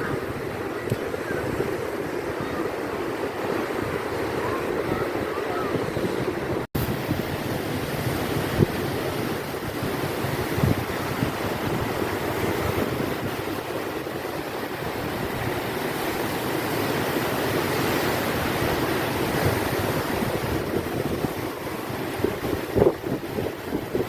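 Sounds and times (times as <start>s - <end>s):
strong wind buffeting microphone: 0.0s - 24.0s
waves breaking on shore: 0.0s - 24.0s.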